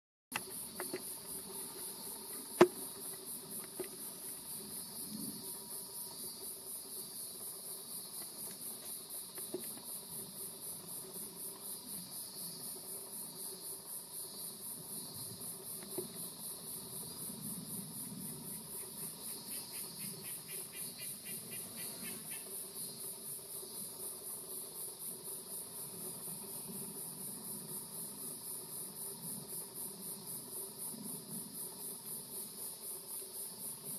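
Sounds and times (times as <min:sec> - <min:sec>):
insects pulsing song: 0:00.3 - 0:33.9.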